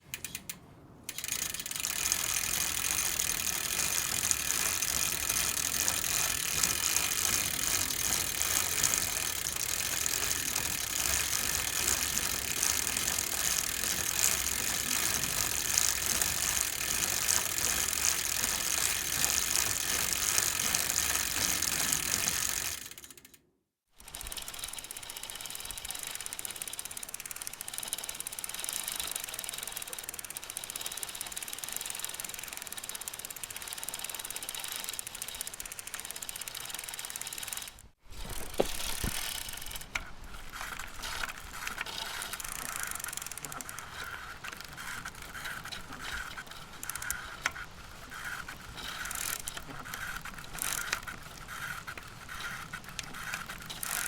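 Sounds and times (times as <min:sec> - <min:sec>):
bicycle chain and freewheel clicking: 0:00.0 - 0:23.4, 0:24.0 - 0:54.0.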